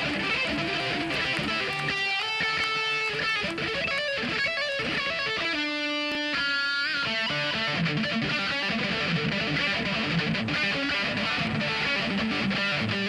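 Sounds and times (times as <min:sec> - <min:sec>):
electric guitar lead line: 0:00.0 - 0:13.0.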